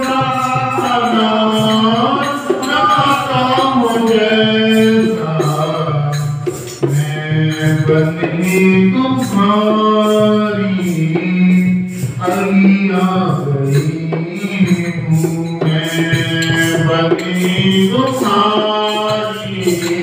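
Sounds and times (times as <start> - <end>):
light percussion beat: 0.0 - 20.0
man singing into a microphone: 0.0 - 20.0.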